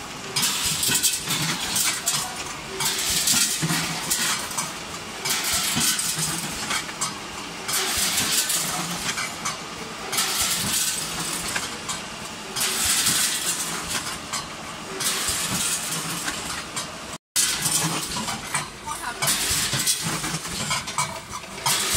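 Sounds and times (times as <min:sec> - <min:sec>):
packing machine hissing and humming: 0:00.0 - 0:21.9.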